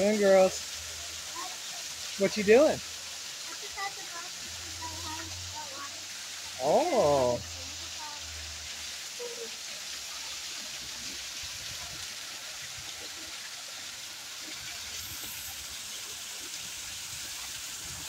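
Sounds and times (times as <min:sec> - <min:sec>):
fountain water splashing on stone: 0:00.0 - 0:18.0.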